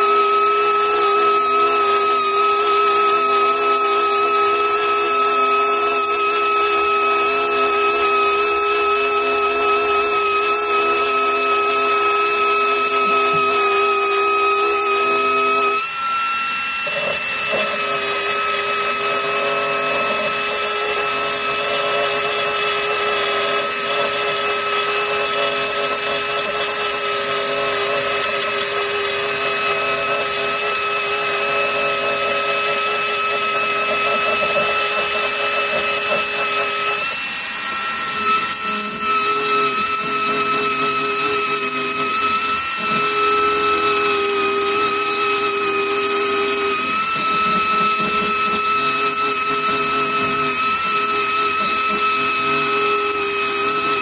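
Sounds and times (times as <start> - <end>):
power drill whining: 0.0 - 54.0.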